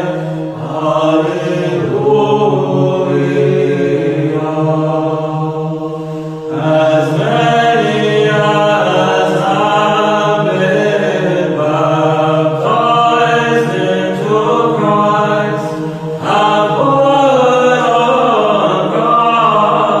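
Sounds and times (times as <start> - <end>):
choir chanting in harmony: 0.0 - 20.0.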